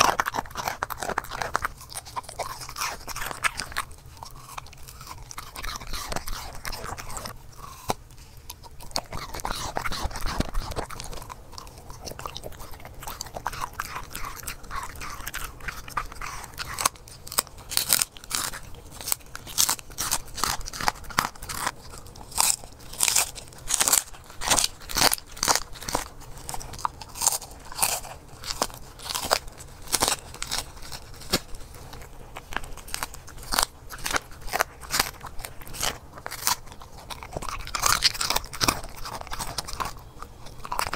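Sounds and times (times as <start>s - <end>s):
dog chewing and crunching food: 0.0s - 40.9s.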